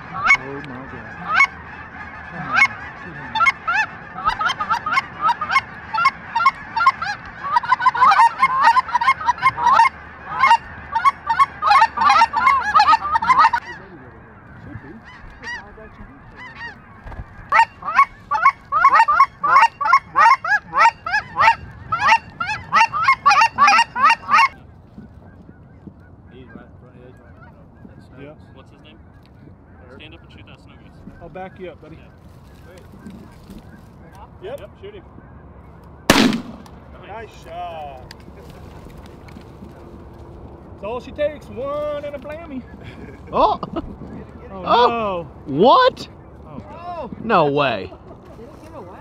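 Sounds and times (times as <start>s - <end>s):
geese honking: 0.0s - 49.0s.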